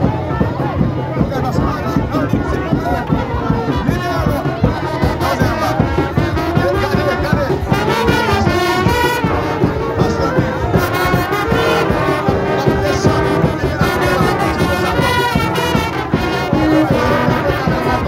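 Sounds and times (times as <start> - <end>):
brass band playing: 0.0 - 18.0.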